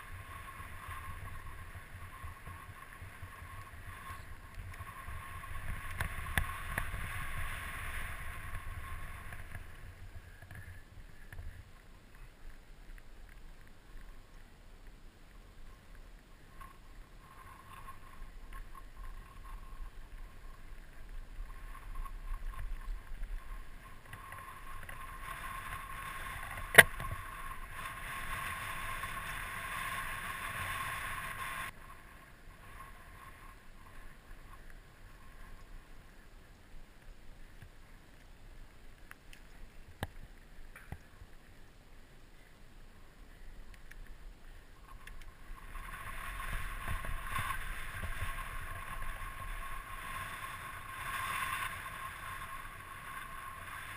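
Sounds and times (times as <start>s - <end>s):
wind rumble on microphone: 0.0s - 14.3s, 15.6s - 36.3s, 43.0s - 53.9s
bike tyres on dirt: 0.0s - 53.9s.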